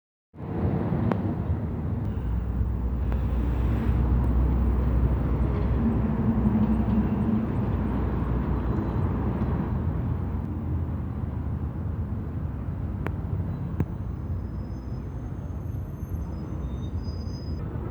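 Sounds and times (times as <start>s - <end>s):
diesel bus engines passing: 0.4s - 17.9s.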